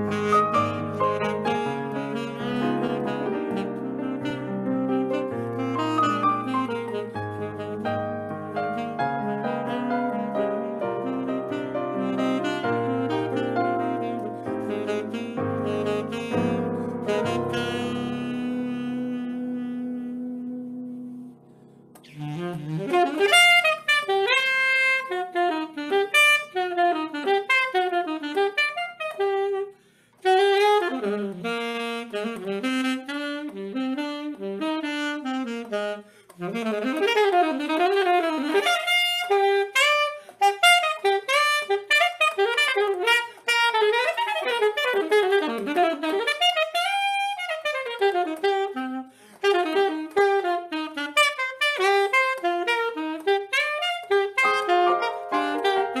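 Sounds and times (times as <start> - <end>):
saxophone melody: 0.0 - 56.0.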